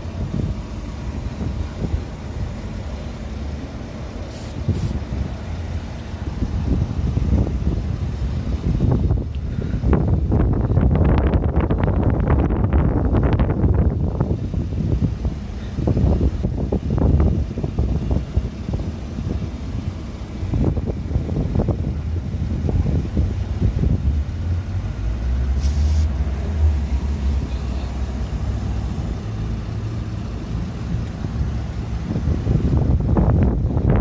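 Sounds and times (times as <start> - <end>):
wind on microphone: 4.3 - 34.0.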